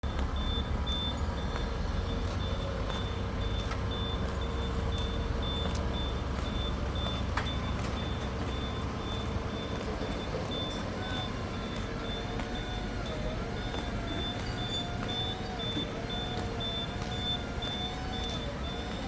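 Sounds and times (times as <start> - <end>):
low engine rumble: 0.0 - 19.0
reversing alarm beeping: 0.0 - 19.0.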